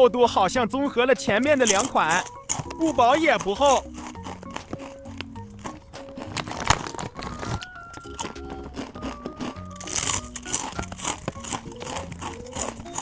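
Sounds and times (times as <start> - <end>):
light background music: 0.0 - 13.0
potato chips crunching: 1.4 - 13.0.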